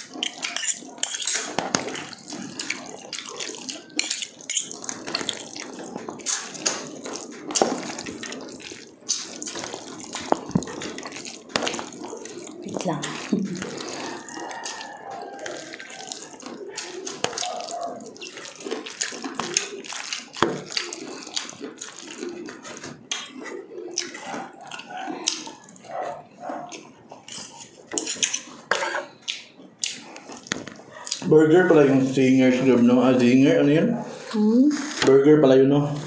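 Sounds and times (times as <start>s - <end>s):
chewing crunchy fried chicken: 0.0s - 32.7s.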